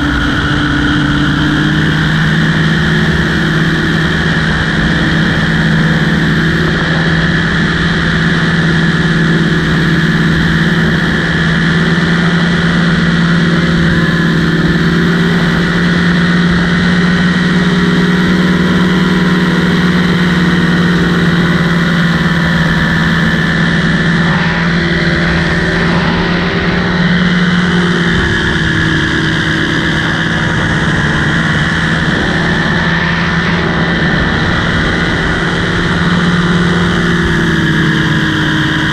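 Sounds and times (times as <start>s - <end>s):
light aircraft engine and propeller: 0.0s - 38.9s.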